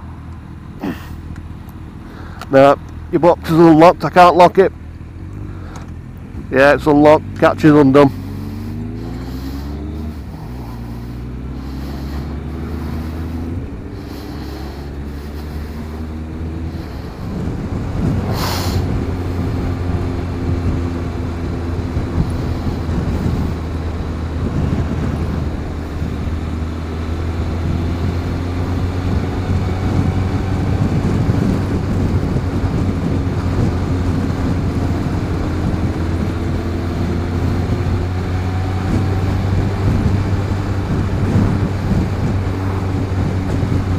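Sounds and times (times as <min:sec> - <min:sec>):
motorcycle engine accelerating: 0:00.0 - 0:43.9
rushing wind: 0:00.0 - 0:43.9.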